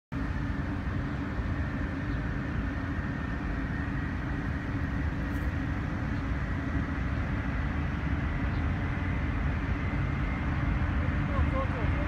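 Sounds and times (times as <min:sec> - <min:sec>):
jet engines rumbling with whine: 0:00.1 - 0:12.0.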